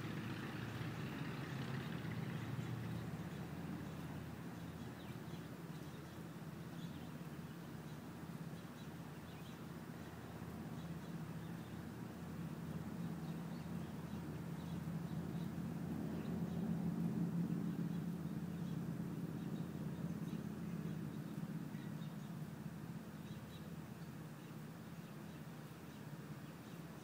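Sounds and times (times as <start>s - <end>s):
distant vehicle rumble: 0.0s - 27.0s.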